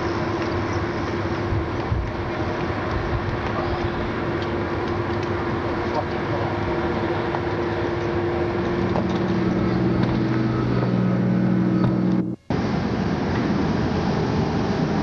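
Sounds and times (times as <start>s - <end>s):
boat engine drone: 0.0s - 15.0s
deep engine hum: 0.0s - 15.0s
water noise: 0.0s - 15.0s
wind: 0.0s - 15.0s.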